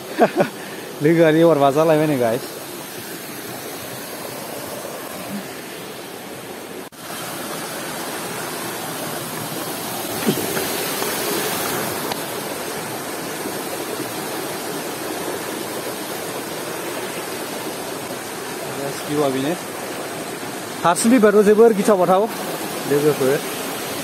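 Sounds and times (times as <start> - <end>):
stream rushing over boulders: 0.0 - 24.0.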